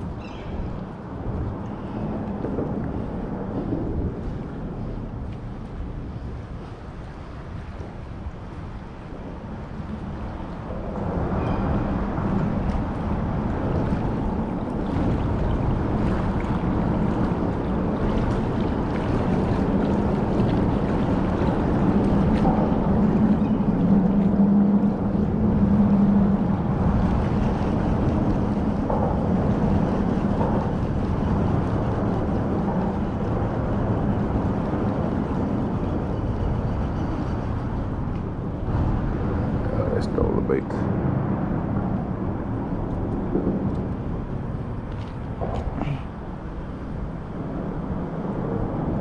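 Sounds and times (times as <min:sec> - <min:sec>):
low engine drone: 0:00.0 - 0:49.0
rushing wind-like noise: 0:00.0 - 0:49.0.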